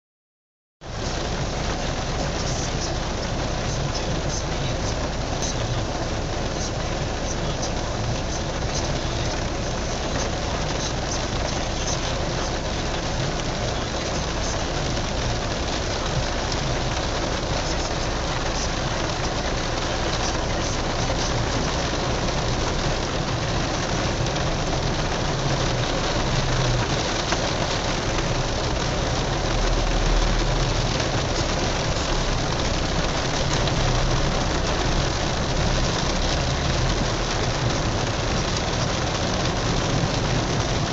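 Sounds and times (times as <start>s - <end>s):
car driving through floodwater: 0.8s - 40.9s
heavy rain on car roof: 0.8s - 40.9s.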